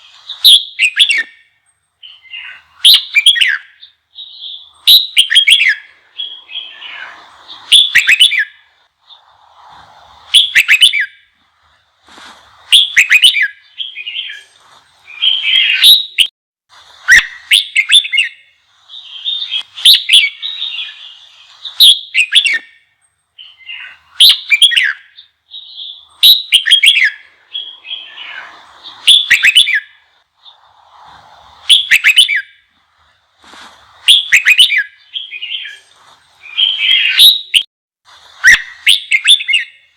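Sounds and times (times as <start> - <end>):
bulbul singing whistled notes: 0.0 - 9.6, 10.2 - 11.8, 12.5 - 16.3, 17.0 - 33.1, 33.9 - 37.7, 38.4 - 39.9.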